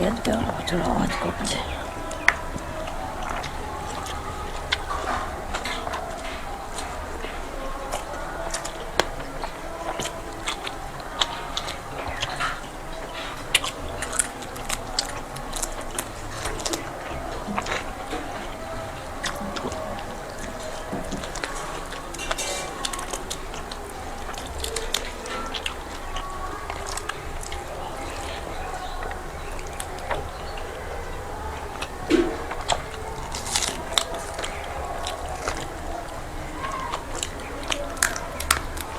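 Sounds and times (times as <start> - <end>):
wet chewing with mouth clicks: 0.0 - 38.9.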